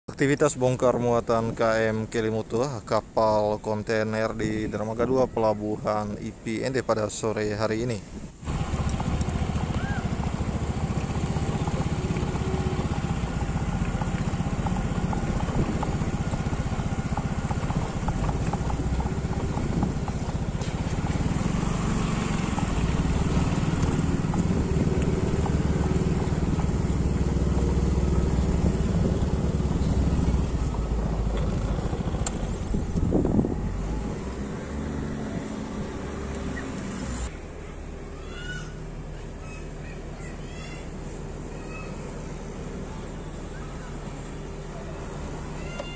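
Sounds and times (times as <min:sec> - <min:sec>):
vehicle engine running: 0:08.4 - 0:38.2, 0:38.8 - 0:45.9.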